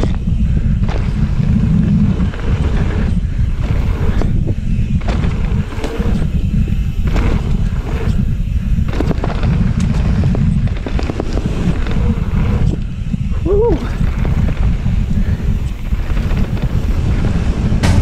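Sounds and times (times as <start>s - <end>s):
bike knocking and clattering: 0.0s - 18.0s
wind buffeting microphone: 0.0s - 18.0s.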